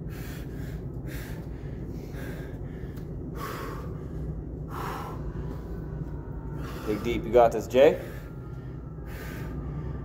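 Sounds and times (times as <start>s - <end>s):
man breathing hard: 0.0s - 10.0s.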